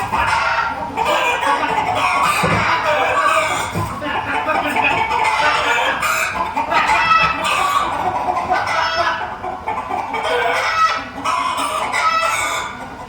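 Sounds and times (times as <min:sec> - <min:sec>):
hen-like clucking: 0:00.0 - 0:13.0.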